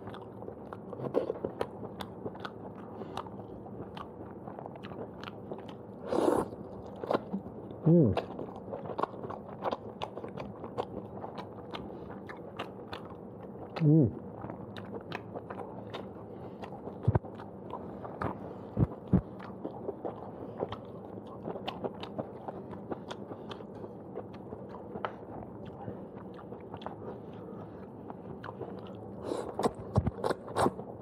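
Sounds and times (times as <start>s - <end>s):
wet chewing: 0.0s - 31.0s.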